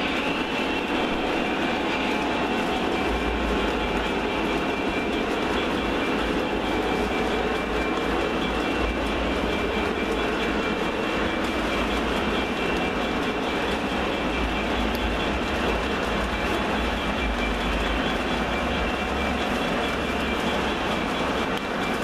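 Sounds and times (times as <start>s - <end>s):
model train wheels rumbling on rails: 0.0s - 22.0s.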